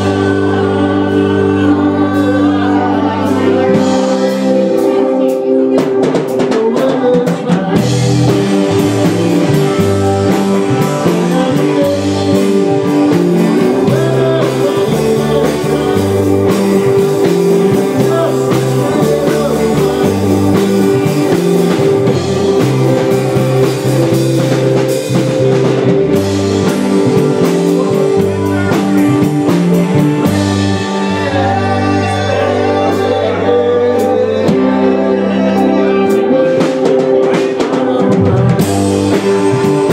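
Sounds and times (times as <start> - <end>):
man singing into a microphone: 0.0 - 25.4, 26.1 - 39.9
live rock band playing: 0.0 - 39.9.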